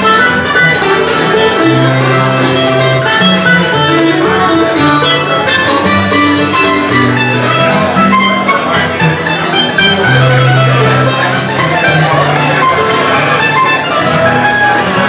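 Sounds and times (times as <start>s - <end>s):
acoustic guitar sustained notes: 0.0s - 15.0s
mandolin picking runs: 0.0s - 15.0s.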